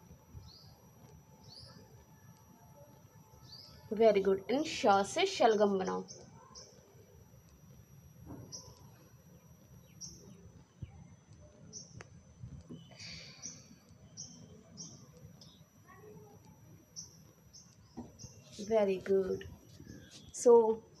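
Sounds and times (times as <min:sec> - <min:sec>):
low steady background hum: 0:00.0 - 0:21.0
faint high bird chirps: 0:00.4 - 0:12.0, 0:12.6 - 0:21.0.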